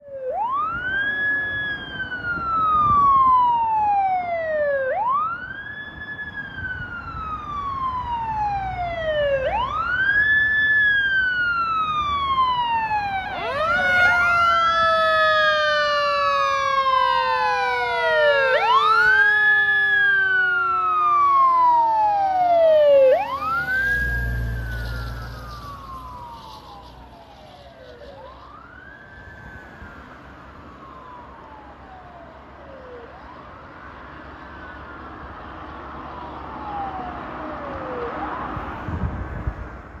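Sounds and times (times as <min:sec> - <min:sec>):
fire engine siren wailing: 0:00.0 - 0:40.0
second siren tone sliding down: 0:00.0 - 0:40.0.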